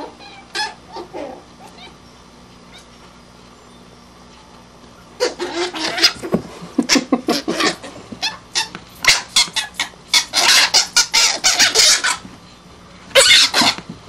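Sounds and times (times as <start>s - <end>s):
animals hissing and squealing: 0.0s - 2.0s, 4.3s - 13.8s.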